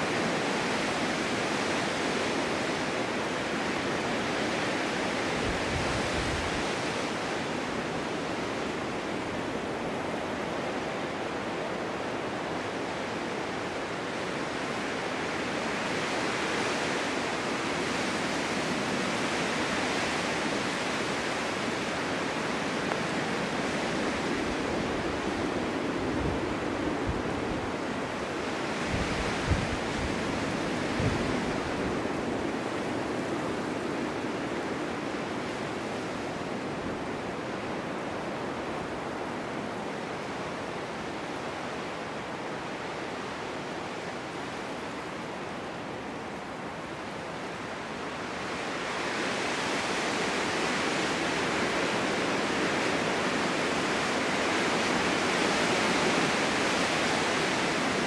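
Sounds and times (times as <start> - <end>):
strong wind gusts: 0.0 - 58.0.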